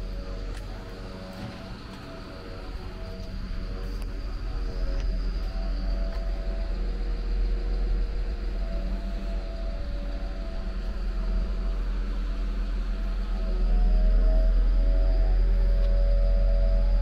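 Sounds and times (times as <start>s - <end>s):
soft ambient music: 0.0s - 17.0s
steady low rumble: 0.0s - 17.0s.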